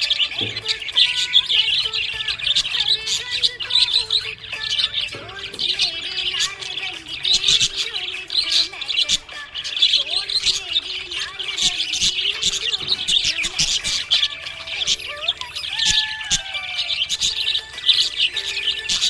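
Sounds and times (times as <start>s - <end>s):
parrots chirping: 0.0s - 19.0s.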